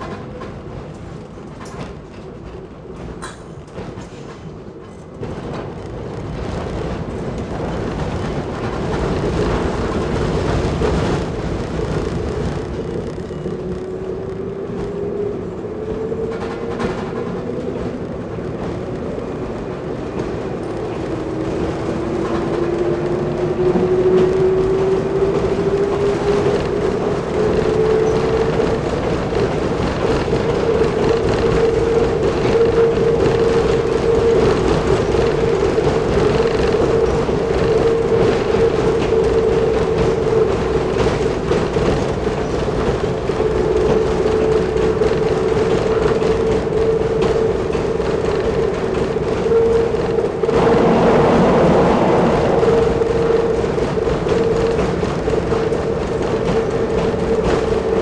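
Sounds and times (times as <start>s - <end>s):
diesel railbus engine accelerating: 0.0s - 58.0s.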